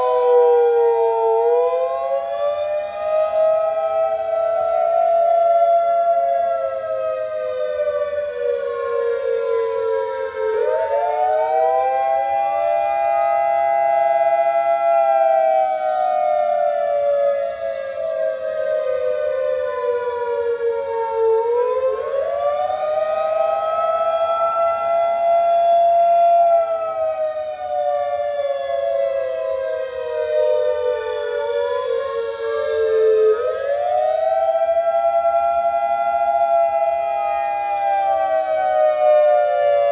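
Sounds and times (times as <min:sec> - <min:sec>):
tornado siren: 0:00.0 - 0:39.9.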